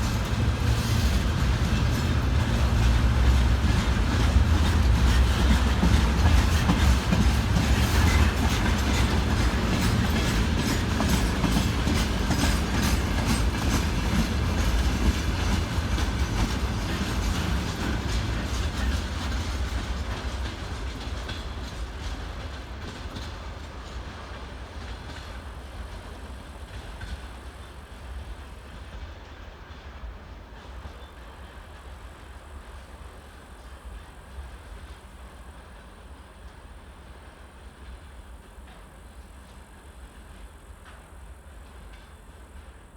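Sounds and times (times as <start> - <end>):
freight train wheels clacking: 0.0 - 42.9.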